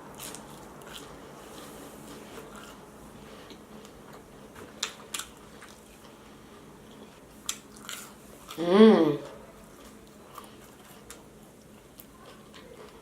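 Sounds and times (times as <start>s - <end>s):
quiet chewing: 0.2s - 8.6s, 9.2s - 13.0s.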